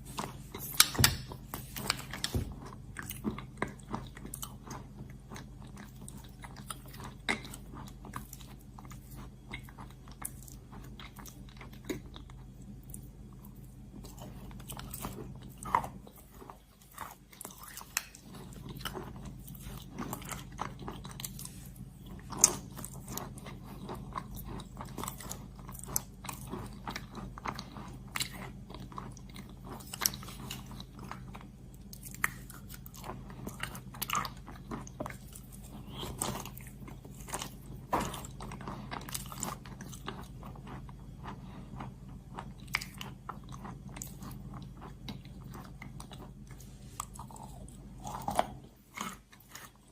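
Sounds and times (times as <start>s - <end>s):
crunchy chewing: 0.0s - 49.9s
steady low hum: 0.0s - 49.9s.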